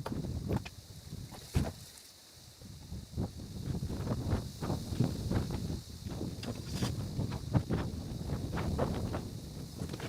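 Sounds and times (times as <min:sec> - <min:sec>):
wind buffeting microphone: 0:00.0 - 0:01.8, 0:02.5 - 0:10.0.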